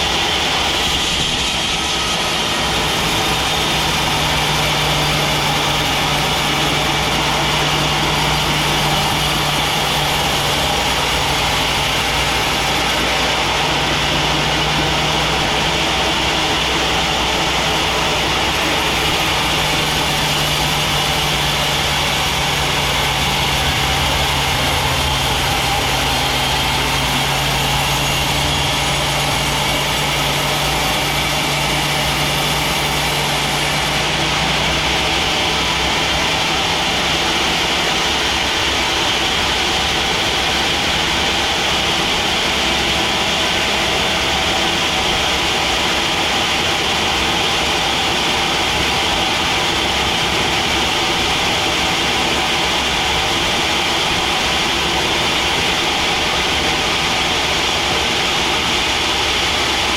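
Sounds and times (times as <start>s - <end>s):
sawmill machinery hum and whine: 0.0s - 59.9s.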